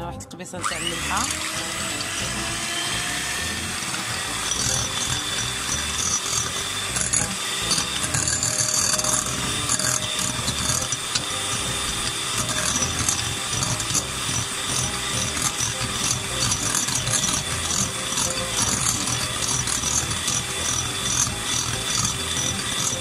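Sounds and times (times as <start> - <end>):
electric hand mixer running: 0.6 - 23.0
beaters clicking and rattling: 0.7 - 23.0.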